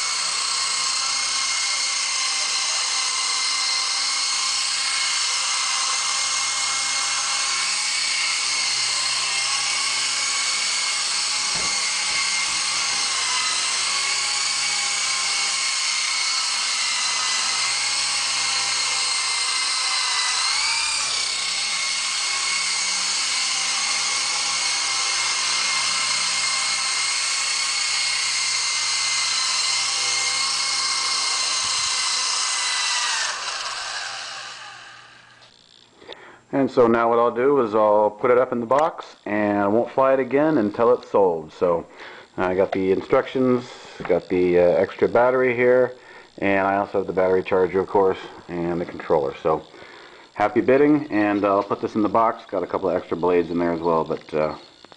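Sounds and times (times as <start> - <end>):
rc helicopter motors whining: 0.0 - 54.9.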